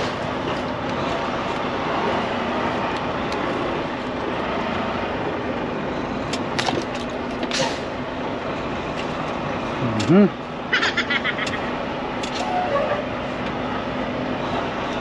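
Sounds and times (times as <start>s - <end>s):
diesel truck engine humming: 0.0s - 15.0s.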